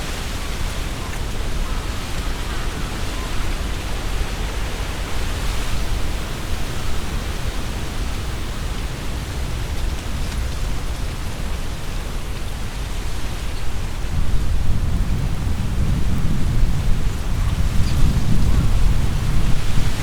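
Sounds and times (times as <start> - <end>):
wind gusting through trees: 0.0 - 20.0
wind rumble on microphones: 0.0 - 20.0.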